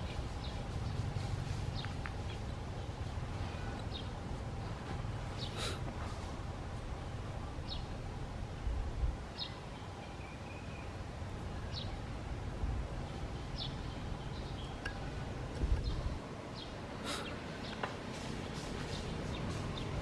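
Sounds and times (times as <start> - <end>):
bird chirping: 0.0 - 4.3, 5.2 - 5.8, 7.0 - 8.1, 9.3 - 20.0.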